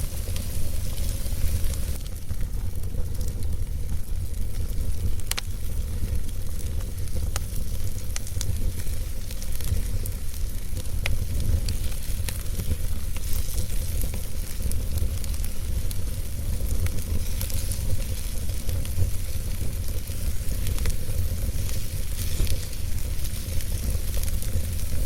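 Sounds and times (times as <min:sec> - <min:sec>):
fire rumbling: 0:00.0 - 0:25.0
logs crackling and popping: 0:00.0 - 0:25.0.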